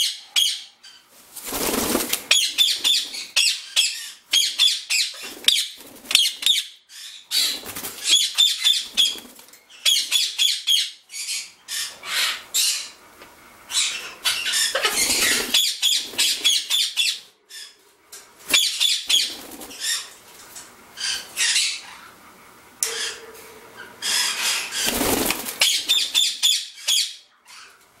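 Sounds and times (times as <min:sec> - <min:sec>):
parakeets squawking: 0:02.3 - 0:13.0, 0:13.7 - 0:17.8, 0:18.5 - 0:20.2, 0:21.0 - 0:22.2, 0:22.8 - 0:27.8.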